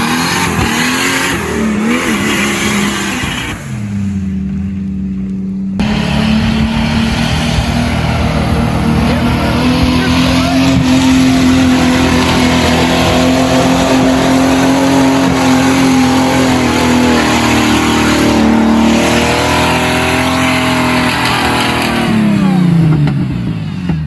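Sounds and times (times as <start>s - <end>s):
engine running under load: 0.0s - 24.0s.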